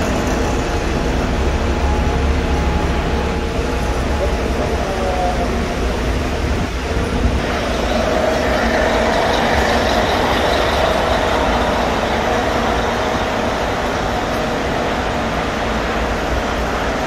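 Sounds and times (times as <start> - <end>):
bus engine running: 0.0 - 17.0
city street traffic: 0.0 - 17.0.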